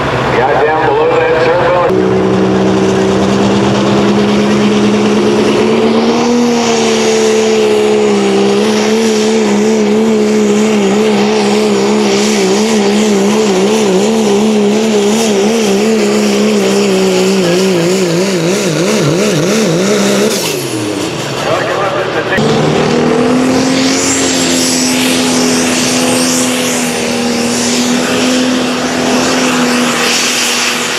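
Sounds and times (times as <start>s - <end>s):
pulling vehicle engine droning: 0.0s - 30.9s.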